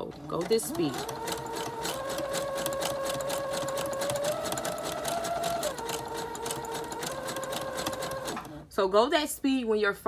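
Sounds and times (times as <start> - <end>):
sewing machine running: 0.0 - 8.7.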